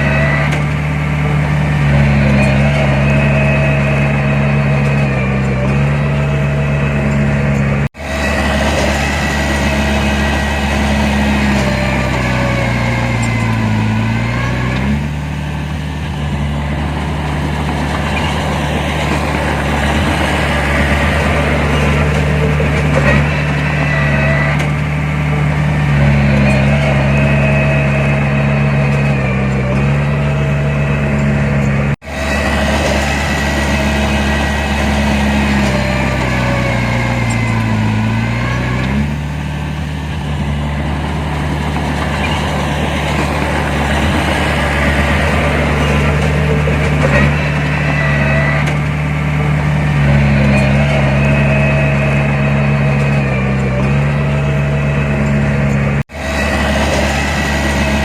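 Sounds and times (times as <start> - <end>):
diesel engine running under work: 0.0 - 58.0.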